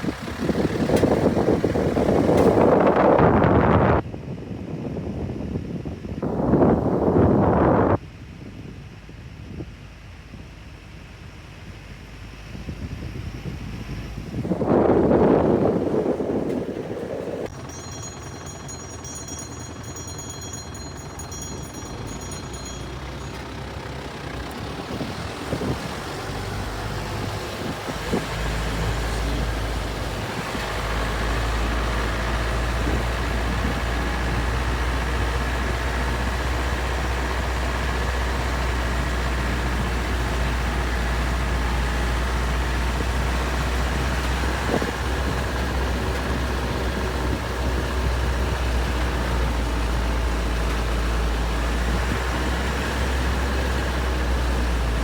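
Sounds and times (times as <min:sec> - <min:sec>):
truck engine rumble: 0:00.0 - 0:55.0.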